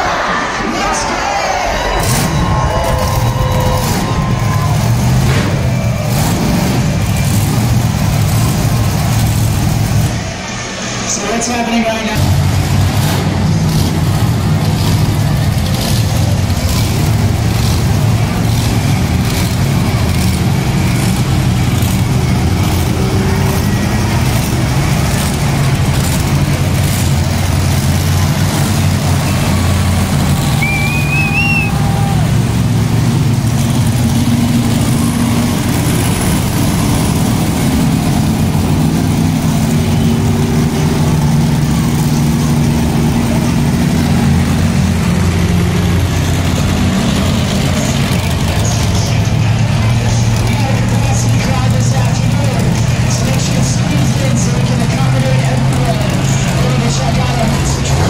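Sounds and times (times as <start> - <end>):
monster truck engine rumbling: 0.0 - 58.0.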